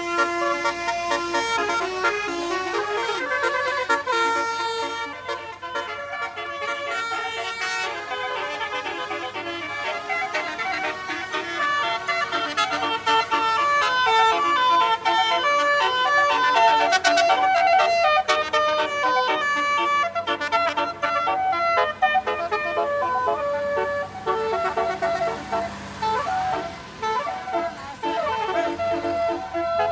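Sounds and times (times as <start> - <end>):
bus horns playing melody: 0.0 - 29.9.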